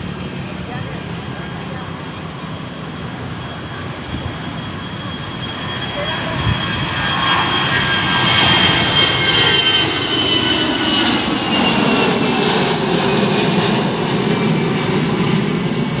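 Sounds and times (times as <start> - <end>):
airliner engines running: 0.0 - 16.0
high engine whine: 0.0 - 16.0.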